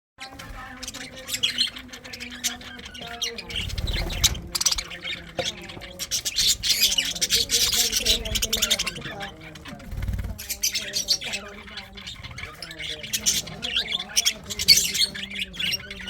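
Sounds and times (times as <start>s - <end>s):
budgerigars chirping and squawking: 0.2s - 16.0s.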